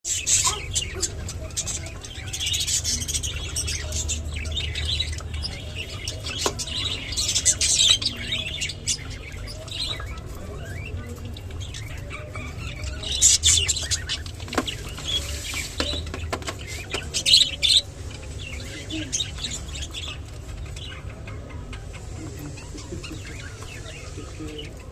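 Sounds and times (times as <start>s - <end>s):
budgerigars chirping and chattering: 0.1s - 24.9s.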